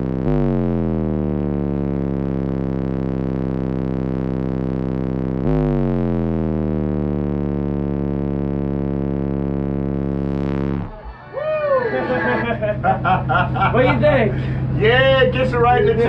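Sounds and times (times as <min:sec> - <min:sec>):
deep bass note from subwoofers: 0:00.0 - 0:11.7, 0:12.3 - 0:16.0.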